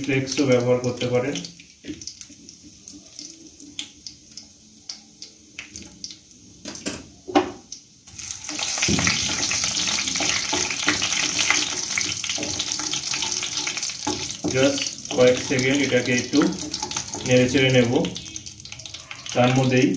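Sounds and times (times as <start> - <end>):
spices frying in hot oil: 0.0 - 19.9.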